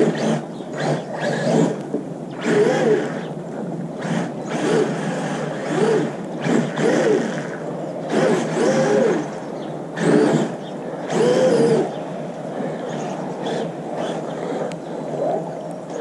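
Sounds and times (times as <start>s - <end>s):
toy truck electric motor whining: 0.0s - 3.3s, 4.0s - 9.3s, 10.0s - 11.9s, 12.6s - 16.0s.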